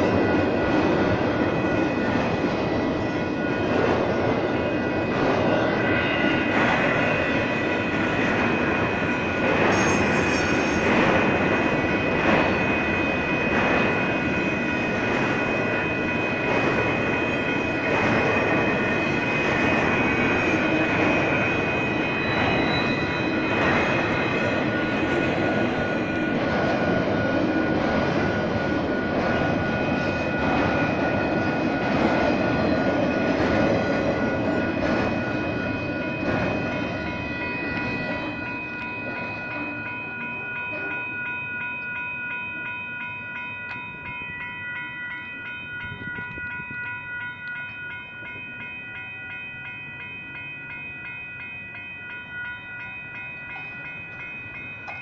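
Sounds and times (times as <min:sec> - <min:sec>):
electronic crossing bells ringing: 0:00.0 - 0:55.0
freight train rolling past: 0:00.0 - 0:55.0.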